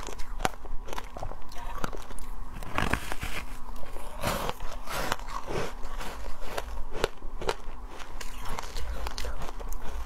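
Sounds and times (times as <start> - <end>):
chewing ice crunches: 0.0 - 10.0.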